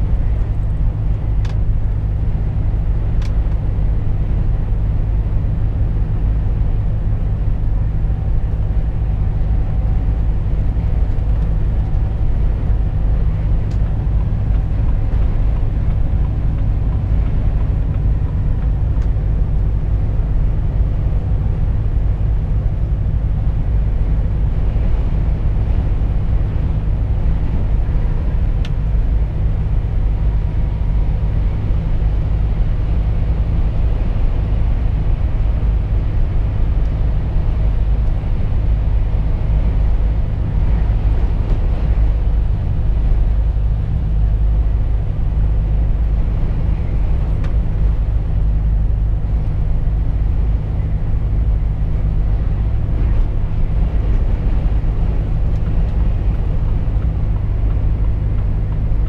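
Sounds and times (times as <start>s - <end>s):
road noise: 0.0s - 59.0s
truck diesel engine drone: 0.0s - 59.0s.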